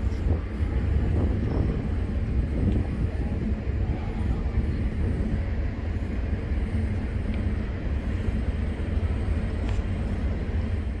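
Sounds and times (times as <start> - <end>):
outdoor street noise: 0.0 - 11.0
vehicle engine rumbling: 0.0 - 11.0.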